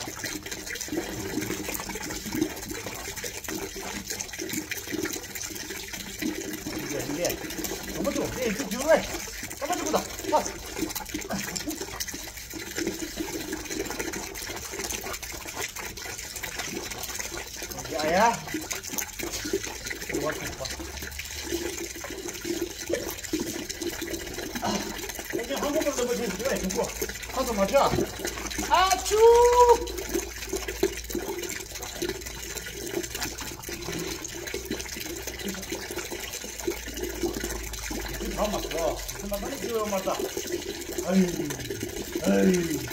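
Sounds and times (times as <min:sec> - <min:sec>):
water splashing on concrete: 0:00.0 - 0:42.9.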